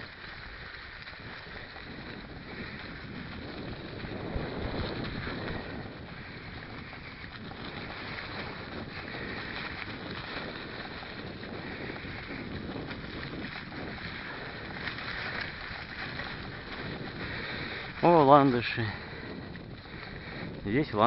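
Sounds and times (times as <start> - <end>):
bike rattling and knocking: 0.0 - 21.0
bike tyre noise: 0.0 - 21.0
wind rushing over microphone: 0.0 - 21.0.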